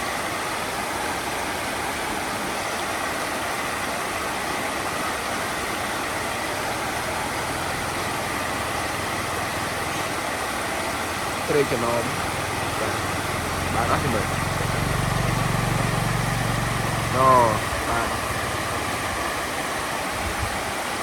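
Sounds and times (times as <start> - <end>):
steady rushing noise: 4.0 - 21.0.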